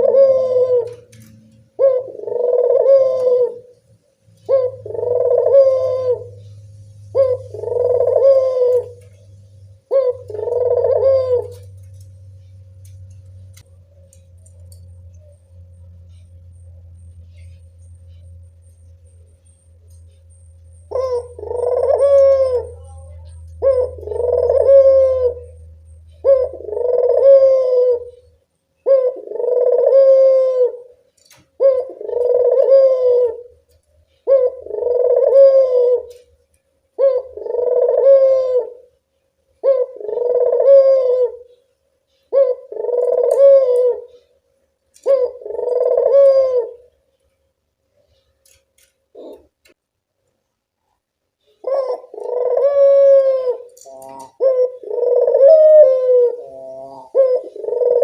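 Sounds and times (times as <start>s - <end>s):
dove cooing: 0.0s - 39.0s, 39.6s - 47.0s, 49.1s - 49.8s, 51.4s - 58.0s.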